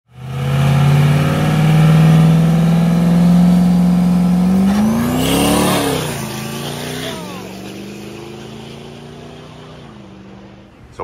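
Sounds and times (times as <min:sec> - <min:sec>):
diesel truck engine revving: 0:00.1 - 0:11.0.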